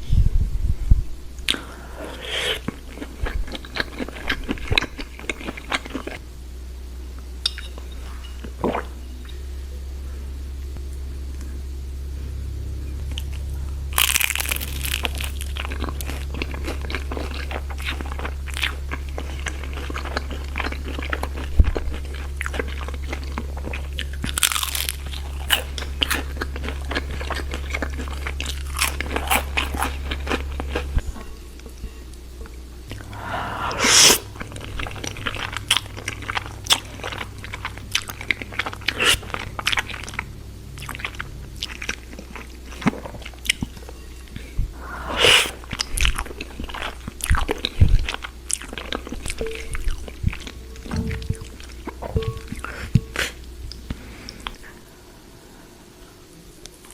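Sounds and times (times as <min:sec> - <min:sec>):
crunching and chewing crispy food: 0:01.4 - 0:06.2, 0:13.0 - 0:54.8, 0:56.7 - 0:56.9.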